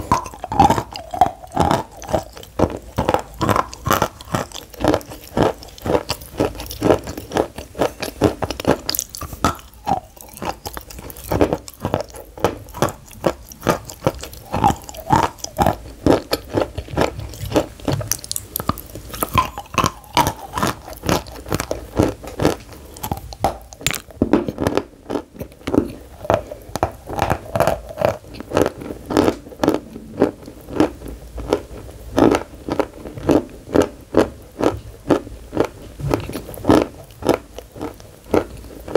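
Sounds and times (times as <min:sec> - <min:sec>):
chalk crunching while chewed: 0:00.0 - 0:38.9.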